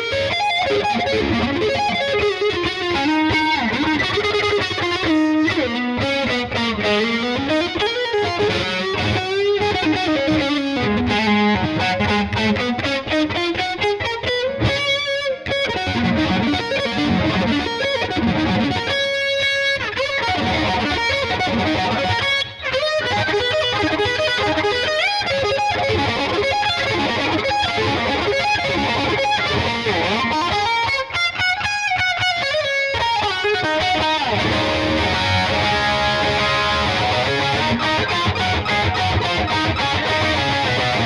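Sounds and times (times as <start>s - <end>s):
distorted electric guitar: 0.0s - 41.0s.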